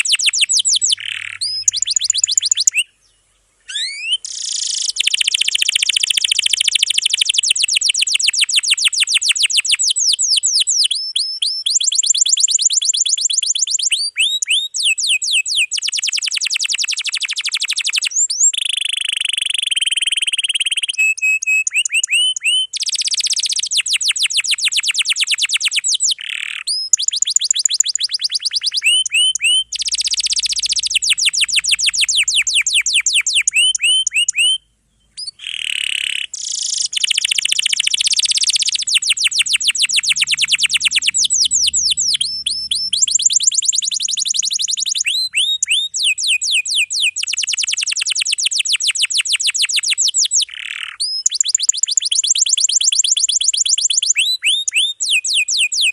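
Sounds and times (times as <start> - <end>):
canary singing rolling trills: 0.0 - 55.9.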